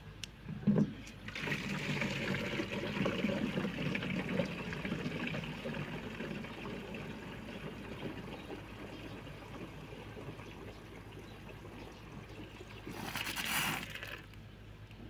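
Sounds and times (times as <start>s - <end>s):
water pouring into plastic can: 1.2s - 14.4s.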